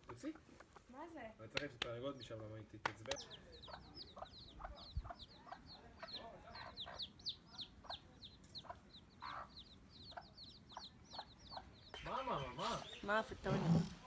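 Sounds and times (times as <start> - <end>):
faint chickens clucking: 0.0 - 14.0.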